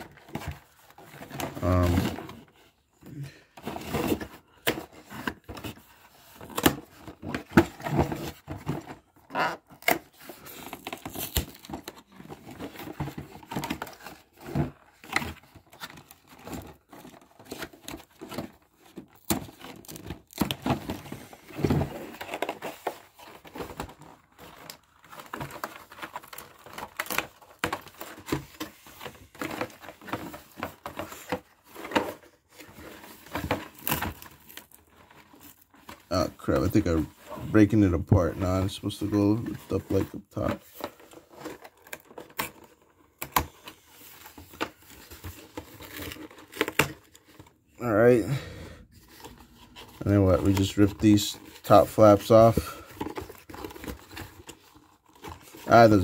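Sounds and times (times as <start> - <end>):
cardboard rustling and tearing: 0.0 - 2.8, 3.5 - 48.3, 48.9 - 56.0.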